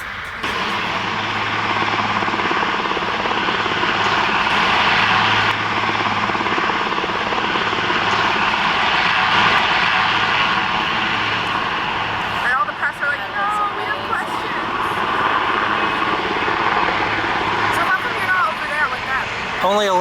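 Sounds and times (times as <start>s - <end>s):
helicopter rotor and turbines: 0.0s - 20.0s.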